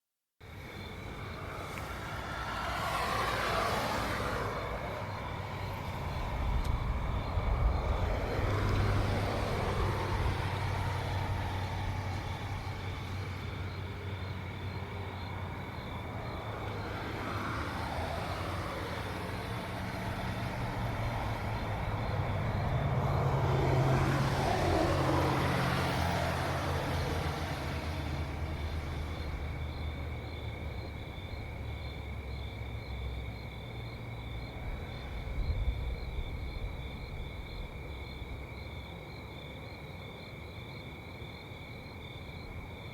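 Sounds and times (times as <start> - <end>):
cars passing by: 0.4 - 42.9
high insect trill: 0.4 - 42.9.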